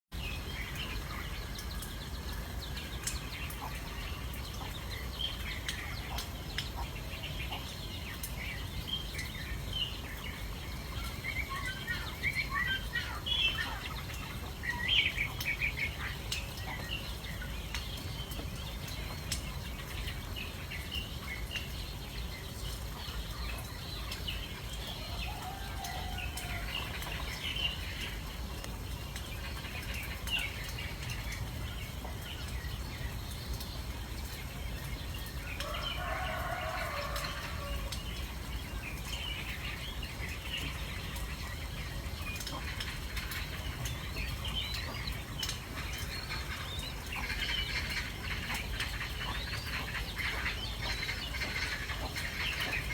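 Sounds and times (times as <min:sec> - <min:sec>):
small birds chirping: 0:00.1 - 0:52.9.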